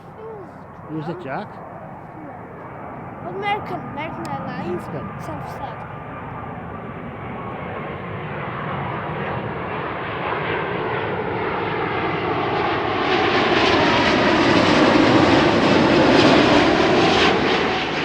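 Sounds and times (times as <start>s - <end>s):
jet airliner passing overhead: 0.0s - 18.0s.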